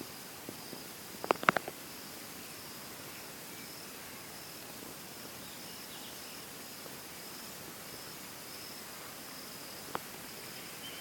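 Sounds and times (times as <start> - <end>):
insects chirping: 0.0 - 11.0
steady hiss: 0.0 - 11.0.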